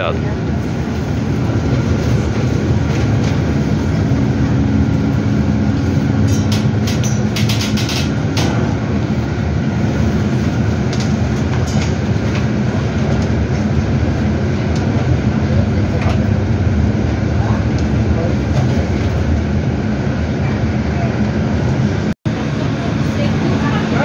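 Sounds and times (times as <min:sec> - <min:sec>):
bus tyres rumbling on cobblestones: 0:00.0 - 0:24.0.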